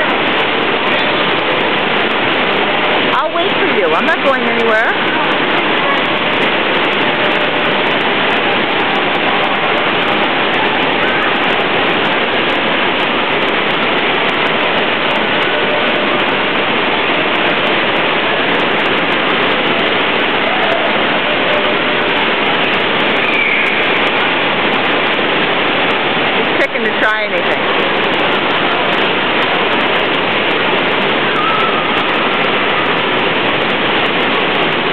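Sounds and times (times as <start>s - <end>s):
water rushing roar: 0.0s - 34.9s.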